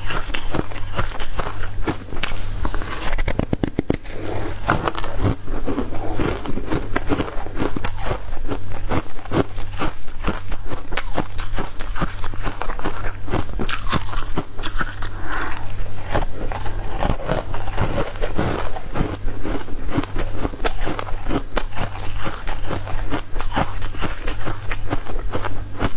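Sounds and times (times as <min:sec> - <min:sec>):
person chewing crunchy food: 0:00.0 - 0:25.9
steady low hum: 0:00.0 - 0:25.9.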